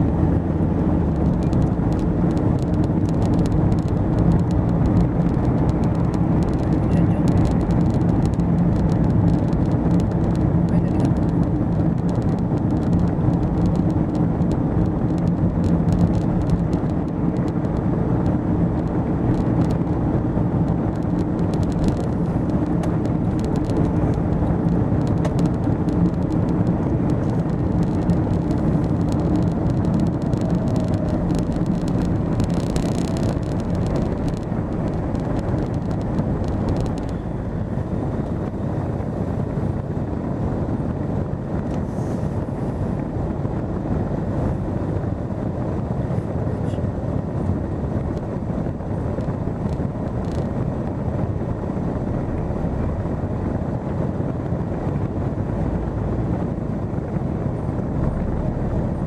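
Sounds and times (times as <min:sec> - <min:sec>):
car engine hum: 0:00.0 - 0:59.0
road rumble: 0:00.0 - 0:59.0.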